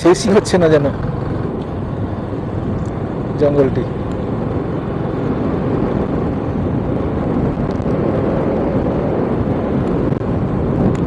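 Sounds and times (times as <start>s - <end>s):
motorcycle engine: 0.0s - 11.0s
road noise: 0.0s - 11.0s
wind rushing over microphone: 0.0s - 11.0s.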